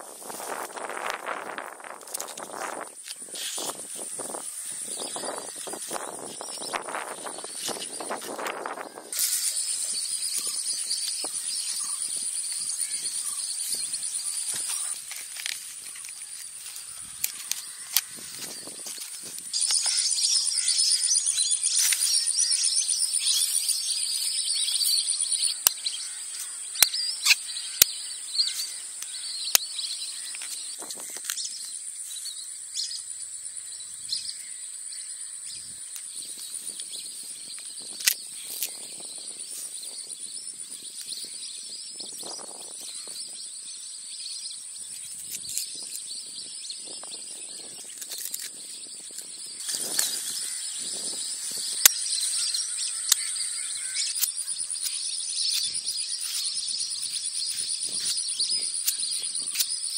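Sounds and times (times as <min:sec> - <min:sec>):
birds chirping: 0:00.0 - 0:59.9
insect drone: 0:00.0 - 0:59.9.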